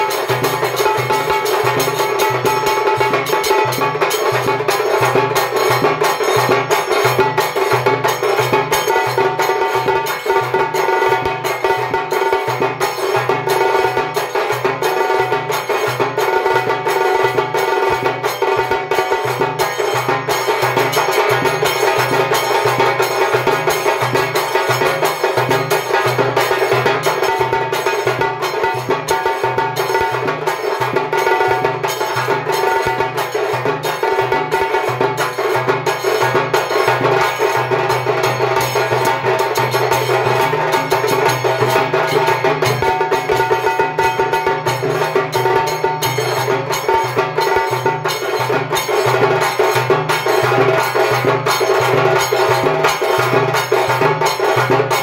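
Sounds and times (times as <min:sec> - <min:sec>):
hand cymbals ringing: 0:00.0 - 0:55.0.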